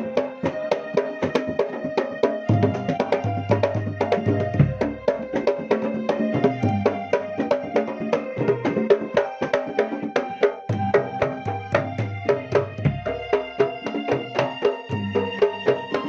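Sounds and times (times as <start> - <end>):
percussion ensemble playing: 0.0 - 16.0.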